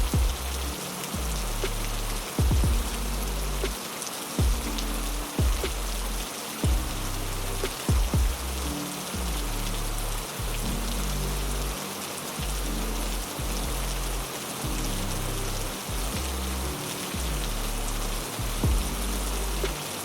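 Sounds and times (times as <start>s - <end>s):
heavy rain hiss: 0.0s - 20.0s.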